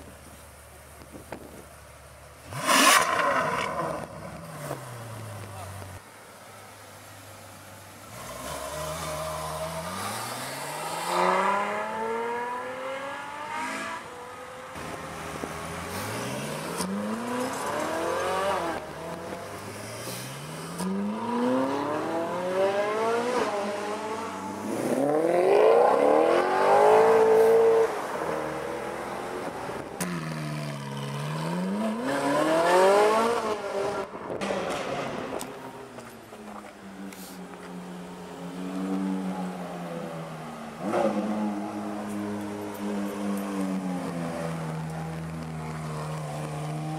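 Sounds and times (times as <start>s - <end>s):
sports car engines accelerating: 2.1s - 6.0s, 6.8s - 46.9s.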